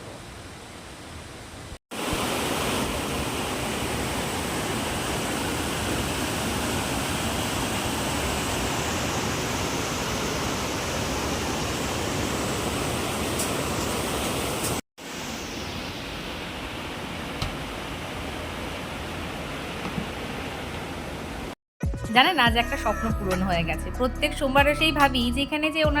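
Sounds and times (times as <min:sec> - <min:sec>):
rush of flowing water: 0:00.0 - 0:21.6.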